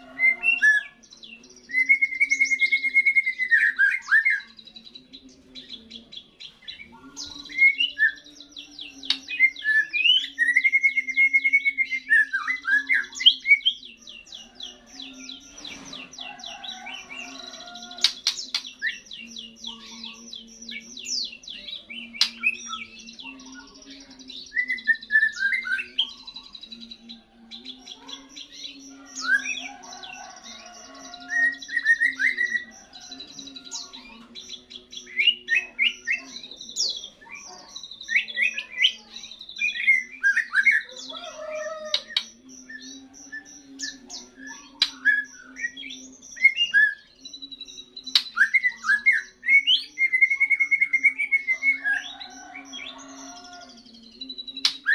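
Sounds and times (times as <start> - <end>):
bird singing whistles and chirps: 0.0 - 54.9.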